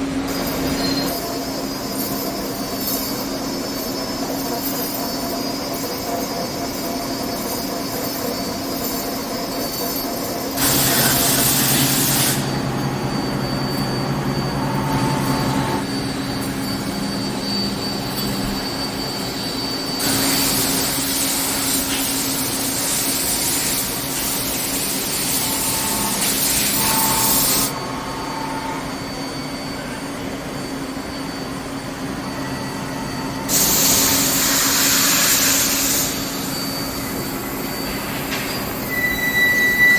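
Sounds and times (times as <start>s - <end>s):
machinery humming: 0.0s - 39.9s.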